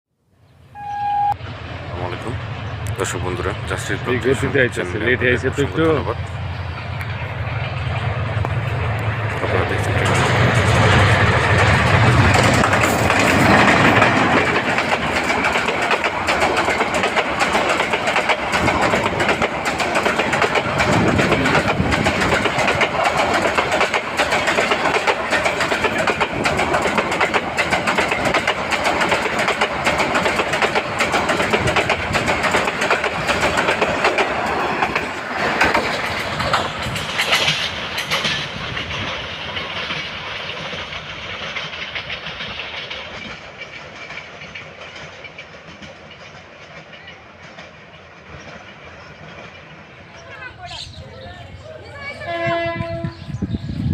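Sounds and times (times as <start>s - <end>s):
train passing at speed: 0.6s - 53.9s
wheels rattling on rails: 0.8s - 53.9s.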